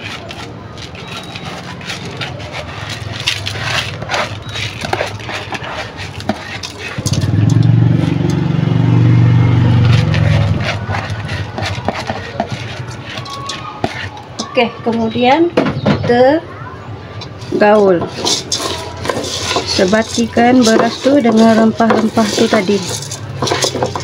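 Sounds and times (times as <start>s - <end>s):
rice pouring and scraping from bowl: 0.0s - 14.5s, 17.4s - 24.0s.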